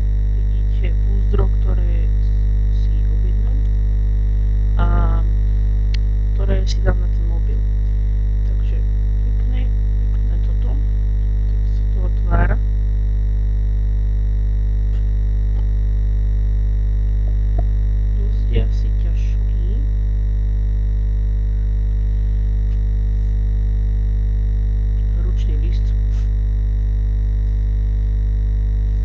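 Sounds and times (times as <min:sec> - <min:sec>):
loud electrical hum: 0:00.0 - 0:29.0.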